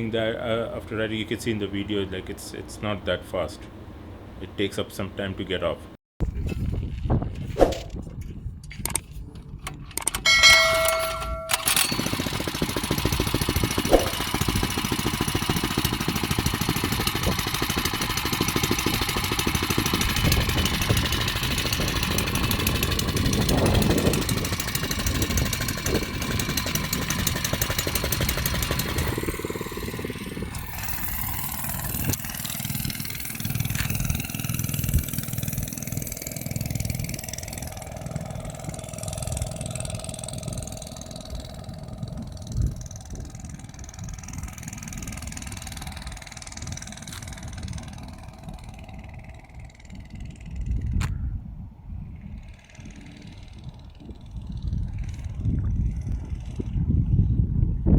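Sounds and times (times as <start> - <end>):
small motorbike engine running: 9.5 - 57.9.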